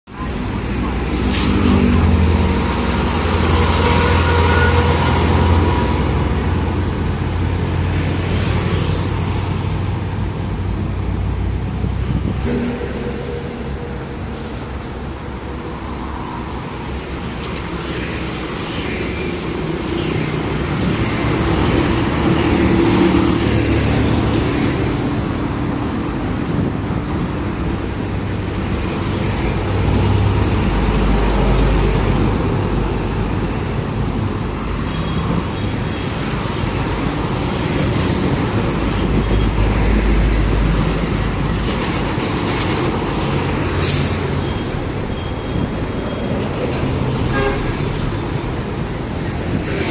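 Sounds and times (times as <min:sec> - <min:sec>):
heavy vehicles passing: 0:00.2 - 0:49.9.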